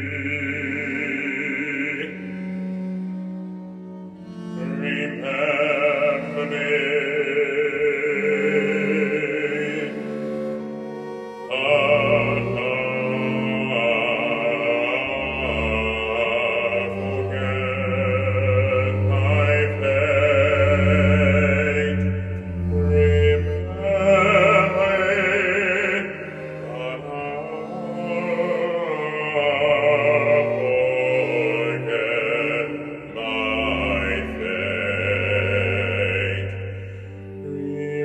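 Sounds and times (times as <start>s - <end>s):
baritone operatic singing: 0.0s - 38.0s
low cello line: 0.0s - 38.0s
violin: 0.0s - 38.0s.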